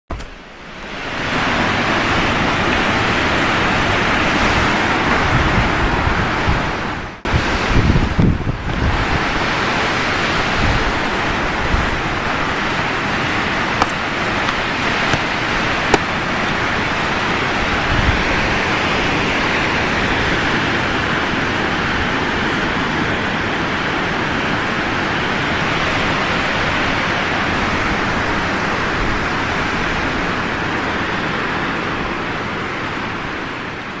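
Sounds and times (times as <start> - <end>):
wind rushing through trees: 0.1 - 34.0
wind buffeting microphone: 0.9 - 33.8.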